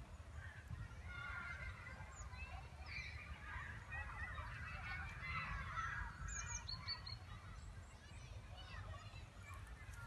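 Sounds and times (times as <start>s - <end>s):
bird calls: 0.0s - 10.0s
wind rumble on microphone: 0.0s - 10.0s.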